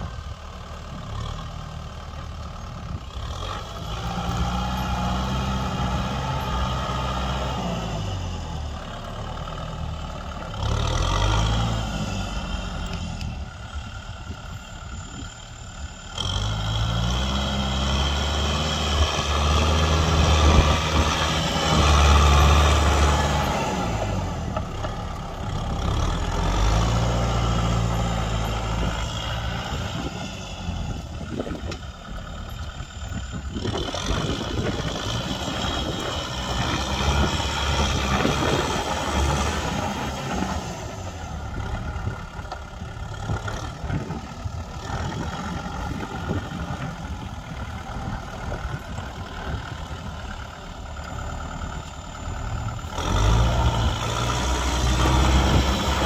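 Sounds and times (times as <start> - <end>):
tiller churning dry soil: 0.0 - 15.3, 15.9 - 56.0
tractor diesel engine under load: 0.0 - 56.0.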